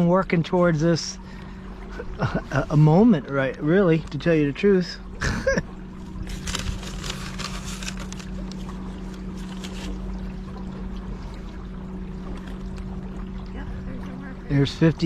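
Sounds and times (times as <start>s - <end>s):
electric boat motor humming: 0.0s - 15.0s
water splashing and rushing: 0.0s - 15.0s
water washing against hull: 0.0s - 15.0s.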